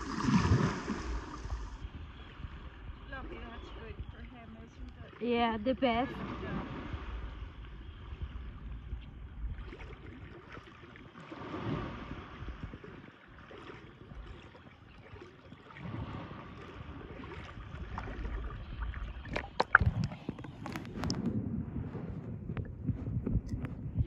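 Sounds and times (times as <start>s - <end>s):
sea water lapping and sloshing: 0.0s - 24.0s.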